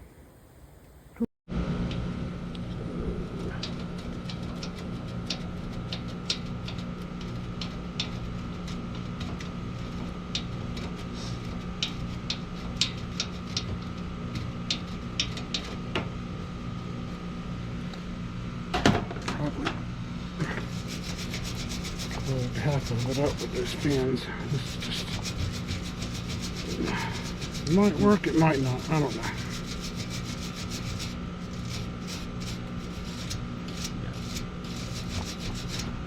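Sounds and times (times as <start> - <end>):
steady machine hum: 0.0 - 36.0.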